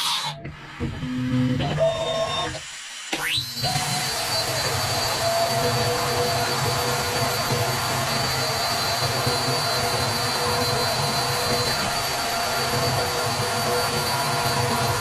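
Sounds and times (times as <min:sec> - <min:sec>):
machining noise: 0:00.0 - 0:15.0
milling machine spindle whine: 0:00.0 - 0:15.0.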